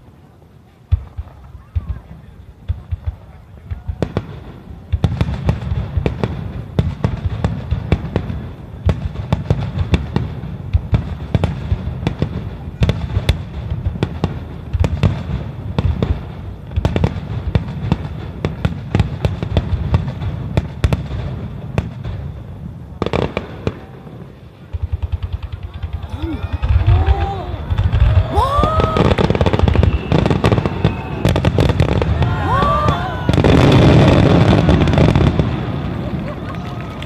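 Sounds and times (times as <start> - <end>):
fireworks bursting: 0.0 - 37.0
low rumble of blasts: 0.0 - 37.0.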